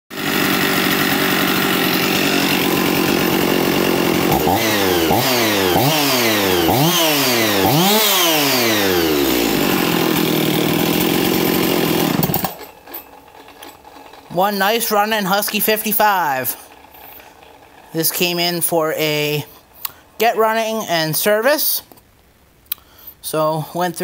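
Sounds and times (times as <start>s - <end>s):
chainsaw engine idling and revving: 0.1s - 20.3s.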